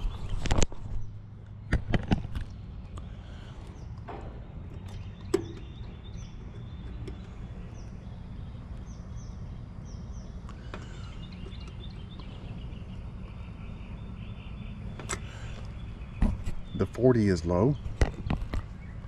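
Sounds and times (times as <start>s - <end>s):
bird chirping: 2.3s - 19.0s.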